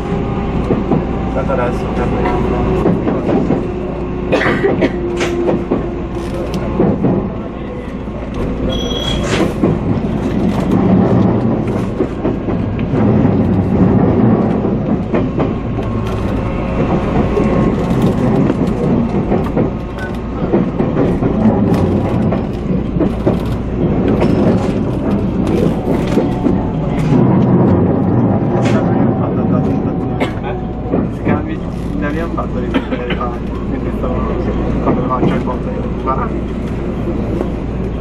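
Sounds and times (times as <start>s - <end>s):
train wheels rumbling: 0.0s - 38.0s
wheels clacking over rail joints: 1.8s - 38.0s.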